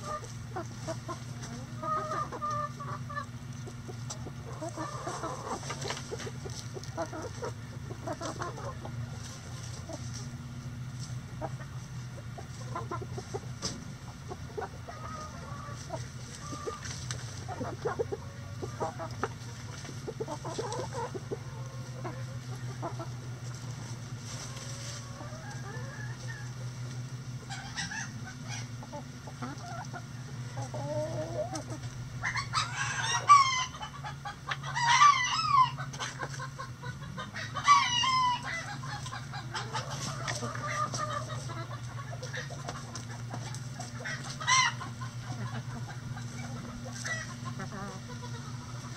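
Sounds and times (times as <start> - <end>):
loud chicken calls: 0.0 - 10.1, 11.3 - 23.6, 24.3 - 48.9
chickens clucking softly: 0.0 - 48.9.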